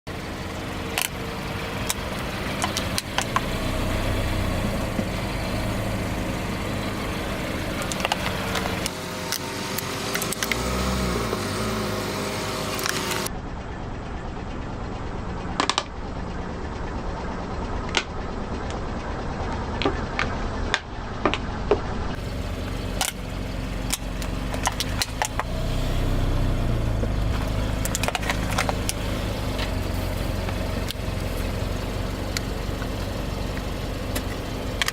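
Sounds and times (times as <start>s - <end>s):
car engine running slowly: 0.1s - 34.9s.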